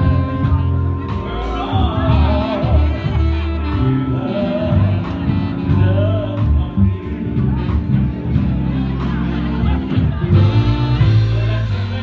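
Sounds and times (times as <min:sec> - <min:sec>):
bass and drums beat: 0:00.0 - 0:12.0
person singing: 0:00.0 - 0:12.0.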